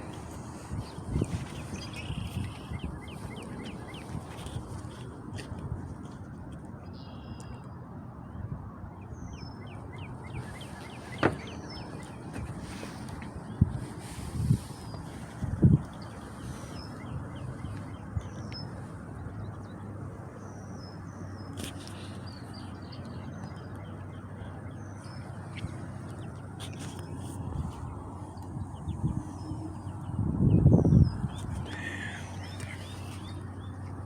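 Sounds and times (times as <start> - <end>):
birds chirping: 0.0 - 5.5, 9.1 - 34.0.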